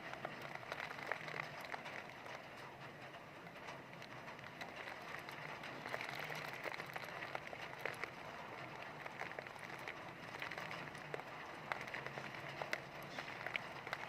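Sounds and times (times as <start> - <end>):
heavy rain falling: 0.0 - 14.0
sharp raindrop impacts: 0.0 - 14.0.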